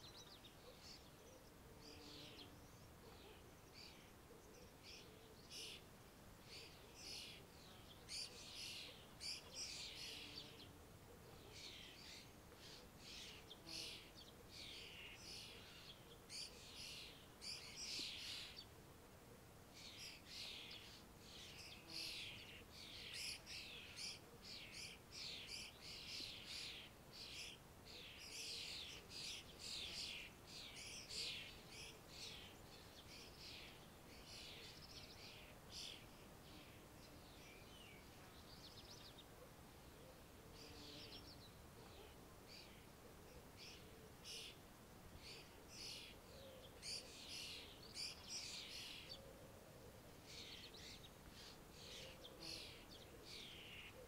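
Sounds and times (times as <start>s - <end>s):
faint songbirds chirping: 0.0s - 54.0s.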